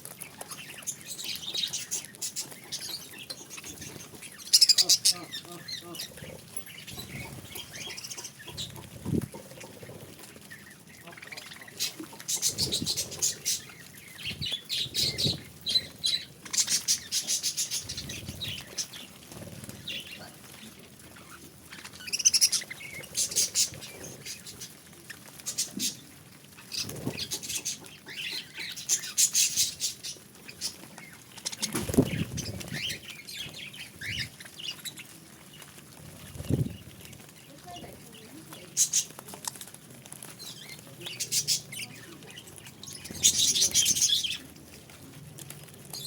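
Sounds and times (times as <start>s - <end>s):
budgerigars chirping and chattering: 0.0s - 44.7s.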